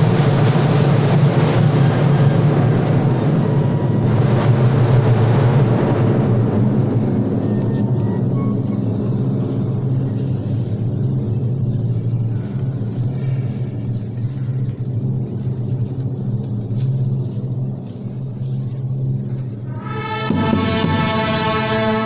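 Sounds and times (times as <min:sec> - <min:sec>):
faint crowd voices: 0:00.0 - 0:22.0
low rumble: 0:00.0 - 0:22.0.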